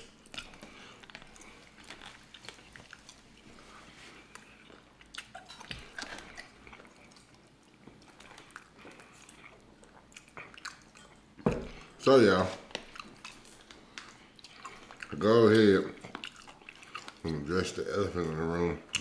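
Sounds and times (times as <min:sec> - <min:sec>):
chewing and eating: 0:00.0 - 0:19.0.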